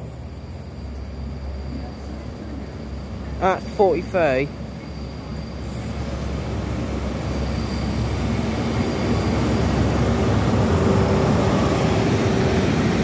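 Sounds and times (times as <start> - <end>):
diesel train engine: 0.0 - 13.0
train wheels on rails: 0.0 - 13.0.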